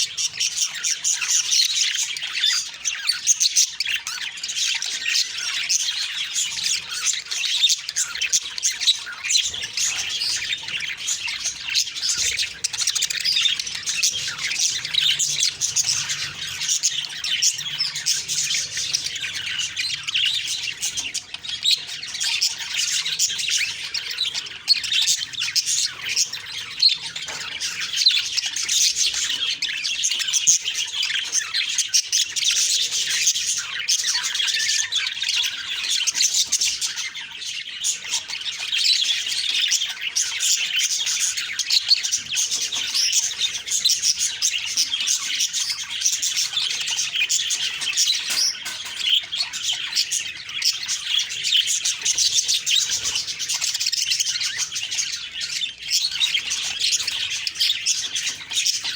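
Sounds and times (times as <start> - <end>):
budgerigars chirping: 0.0 - 58.9.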